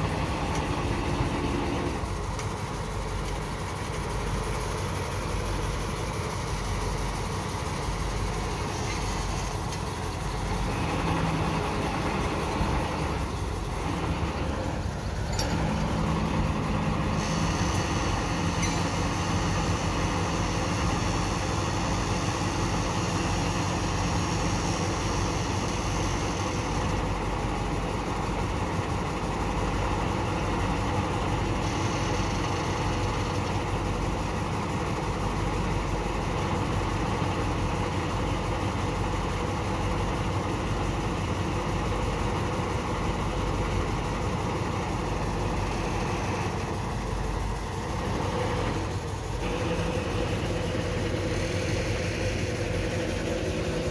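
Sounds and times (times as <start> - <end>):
diesel engine of heavy machinery: 0.0 - 53.9.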